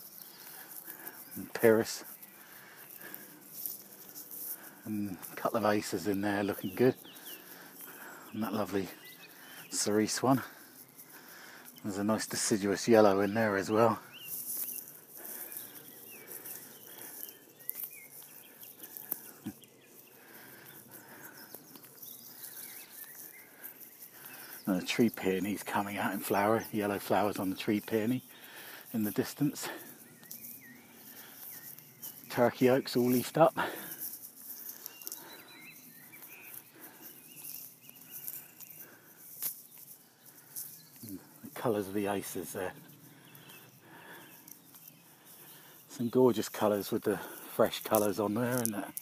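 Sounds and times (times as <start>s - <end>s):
faint birdsong: 0.0s - 49.0s
quiet outdoor background noise: 0.0s - 49.0s.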